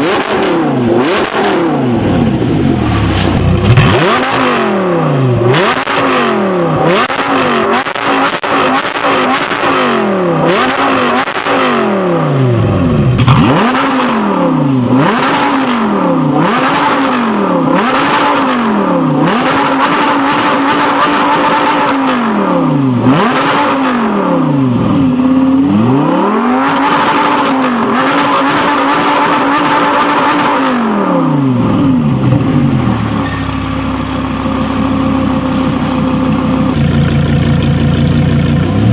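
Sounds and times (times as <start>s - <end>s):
sports car engine revving: 0.0s - 38.9s.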